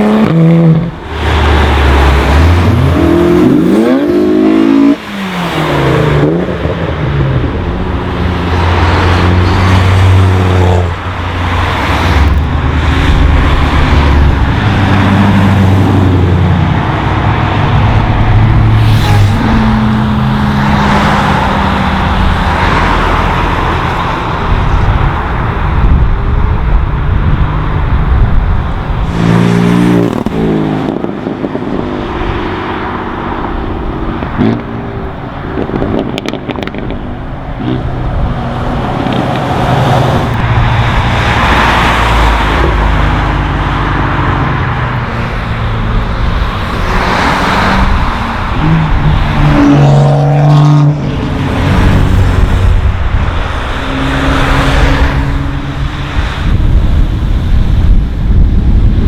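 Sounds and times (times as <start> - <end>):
car engines revving past: 0.0 - 59.0.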